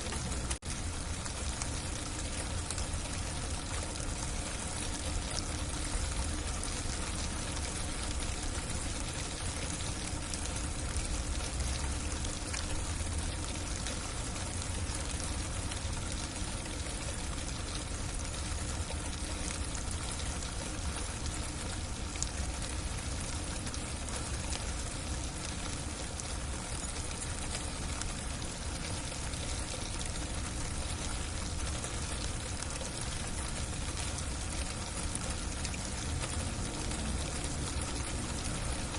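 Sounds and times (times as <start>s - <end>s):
freezing rain on a roof: 0.0s - 38.9s.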